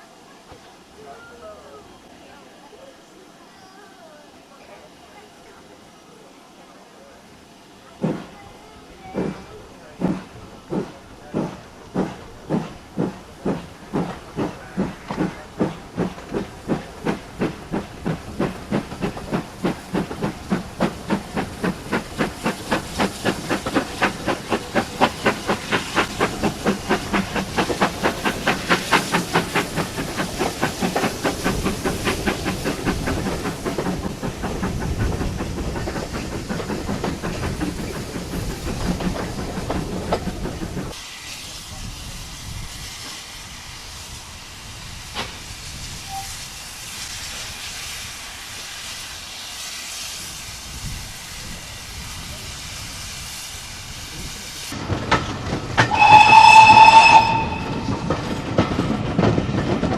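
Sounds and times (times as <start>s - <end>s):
steam locomotive chuffing: 4.4s - 59.9s.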